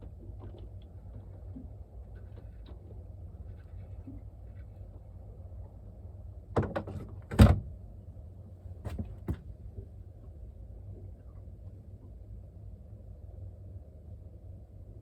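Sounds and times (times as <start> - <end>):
steady low rumble: 0.0 - 6.6, 7.7 - 15.0.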